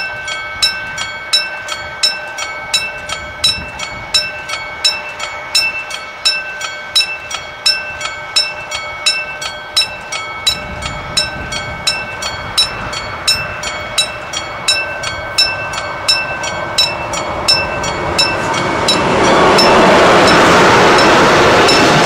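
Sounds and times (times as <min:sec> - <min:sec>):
freight train passing: 0:00.0 - 0:22.0
level crossing bell ringing: 0:00.0 - 0:22.0.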